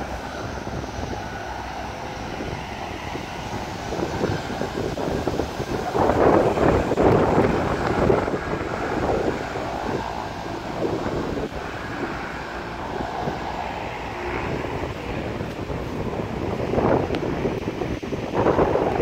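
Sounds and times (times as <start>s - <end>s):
floatplane engine running: 0.0s - 19.0s
wind buffeting microphone: 0.0s - 19.0s.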